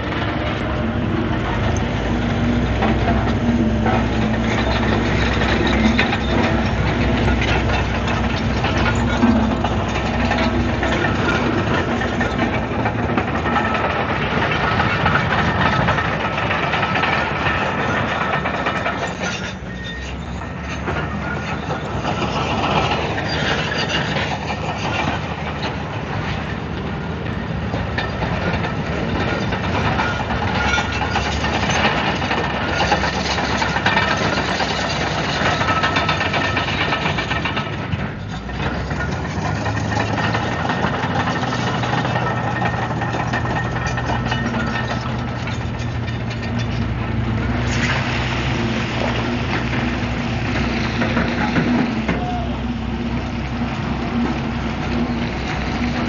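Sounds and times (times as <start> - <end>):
bulldozer diesel engine under load: 0.0 - 56.0
metallic clatter of steel tracks: 0.0 - 56.0.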